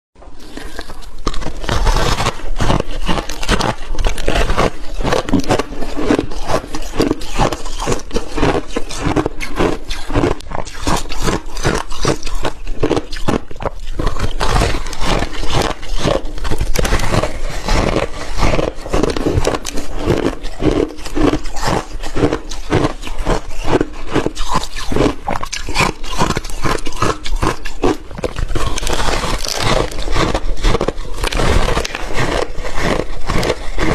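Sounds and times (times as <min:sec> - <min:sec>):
crunching and chewing ice: 0:00.2 - 0:33.9.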